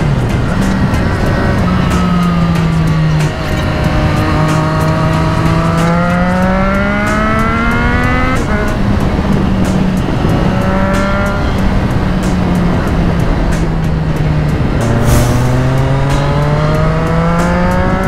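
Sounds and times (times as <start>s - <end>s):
motorcycle engine revving: 0.0s - 18.0s
wind noise on microphone: 0.0s - 18.0s.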